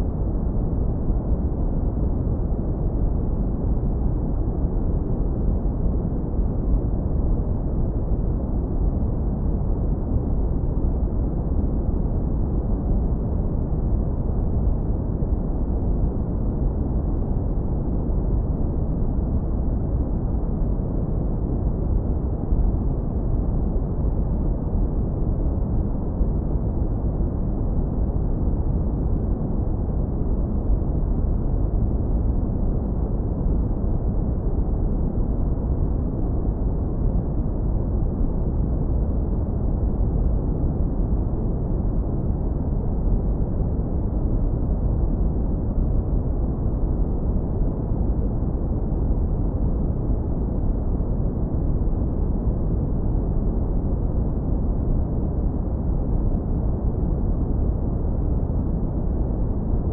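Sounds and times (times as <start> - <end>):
deep smooth brown noise rumble: 0.0 - 59.9.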